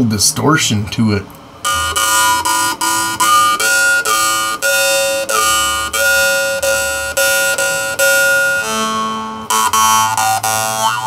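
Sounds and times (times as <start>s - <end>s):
jaw harp twanging melody: 1.6s - 11.0s.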